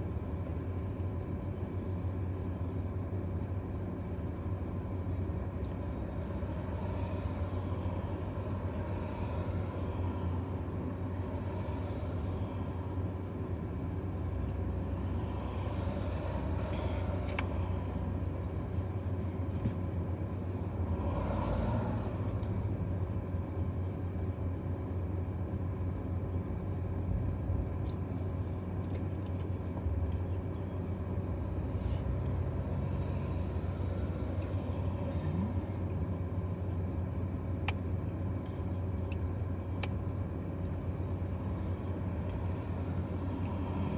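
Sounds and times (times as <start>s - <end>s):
low rumble with constant hum: 0.0s - 43.9s.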